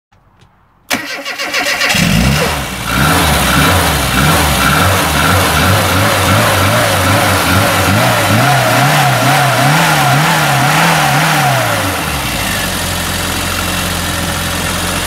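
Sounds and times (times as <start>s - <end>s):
car engine starting and revving: 0.9s - 13.9s.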